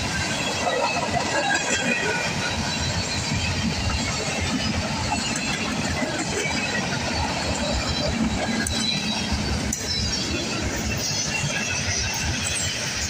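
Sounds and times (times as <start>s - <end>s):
freight train cars rolling: 0.0s - 13.0s.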